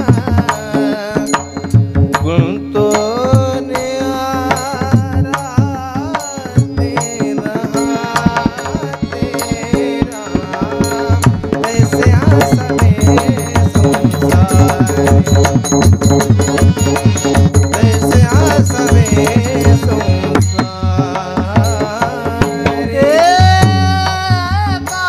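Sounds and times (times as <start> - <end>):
drum playing: 0.0 - 25.0
harmonium: 0.0 - 25.0
man singing: 0.0 - 25.0.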